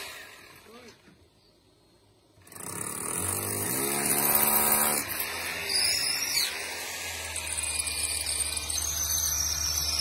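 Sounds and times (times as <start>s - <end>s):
electric drill boring into concrete: 0.0s - 0.9s, 2.4s - 10.0s.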